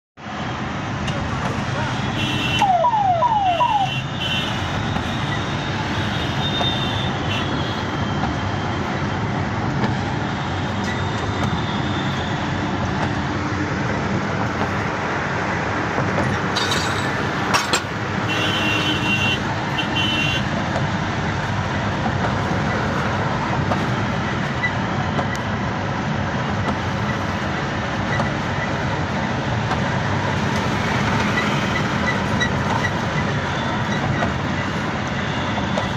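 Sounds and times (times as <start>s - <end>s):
moving vehicle rumble: 0.2s - 35.9s.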